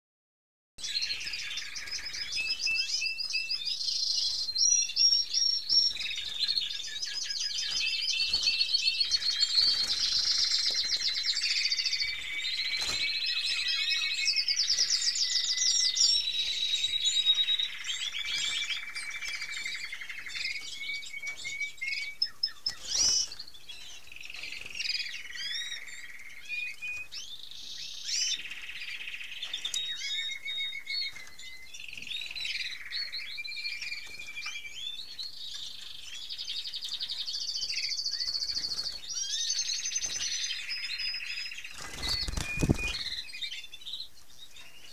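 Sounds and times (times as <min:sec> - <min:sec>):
canaries singing: 0:00.8 - 0:44.9.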